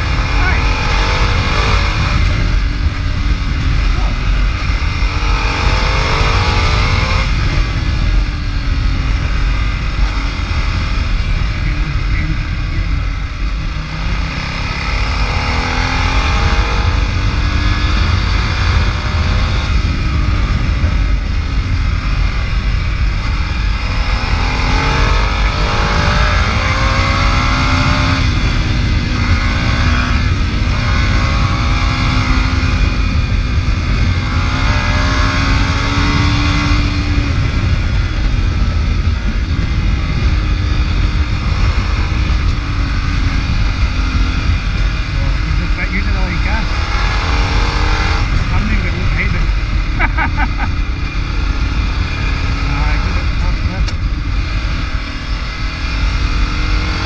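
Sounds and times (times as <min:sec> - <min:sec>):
motorcycle engine accelerating: 0:00.0 - 0:57.0
wind rumble on microphone: 0:00.0 - 0:57.0.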